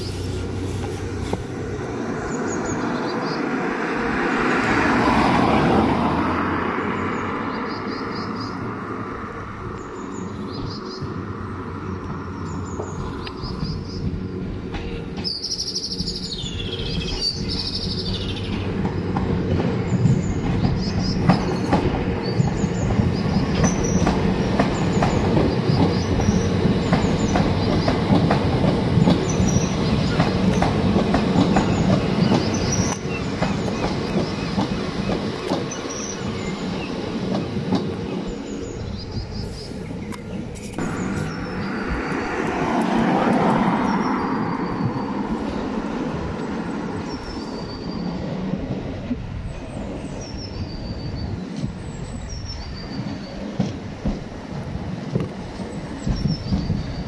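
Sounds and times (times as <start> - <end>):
passenger train passing: 0.0 - 57.0.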